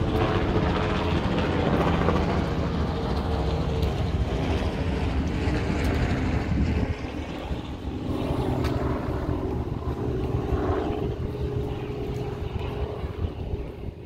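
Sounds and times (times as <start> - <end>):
steady engine drone: 0.0 - 14.0.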